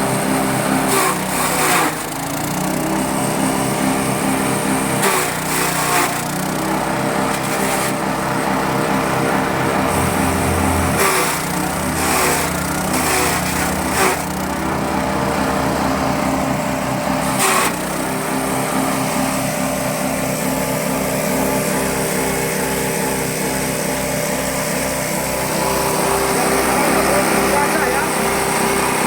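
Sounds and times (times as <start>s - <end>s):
grass chopper engine running: 0.0s - 29.0s.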